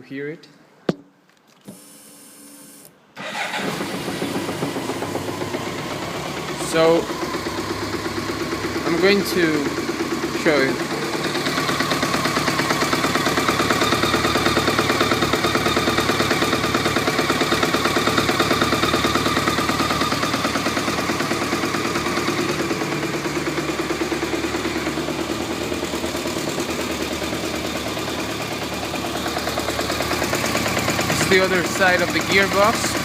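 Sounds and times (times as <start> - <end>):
harsh engine rattle: 3.2 - 33.0
motorcycle engine idling: 3.3 - 33.0.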